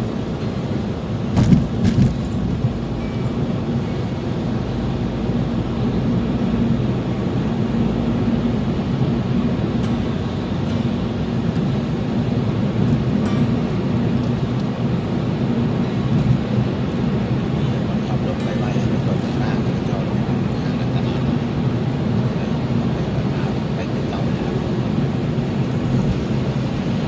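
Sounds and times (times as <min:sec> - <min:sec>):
car driving along road: 0:00.0 - 0:27.0.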